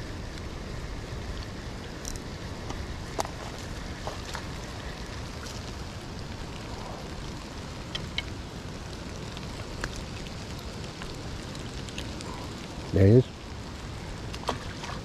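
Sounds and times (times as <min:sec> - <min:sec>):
rain pattering on water: 0:00.0 - 0:15.0.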